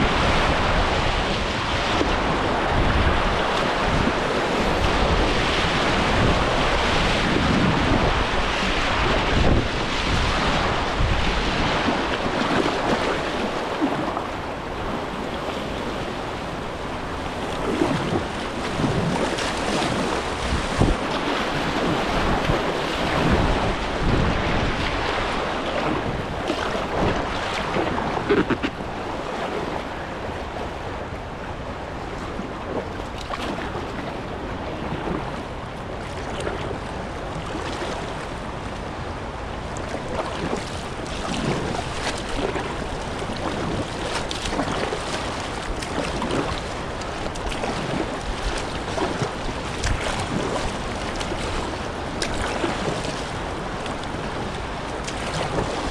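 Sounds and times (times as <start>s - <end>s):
rushing river water: 0.0s - 55.9s
wind buffeting microphone: 0.0s - 55.9s.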